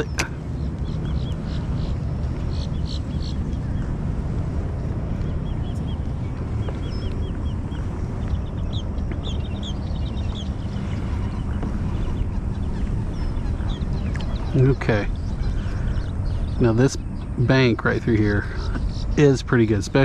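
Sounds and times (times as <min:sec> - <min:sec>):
low rumble: 0:00.0 - 0:20.0
small birds chirping: 0:00.0 - 0:20.0.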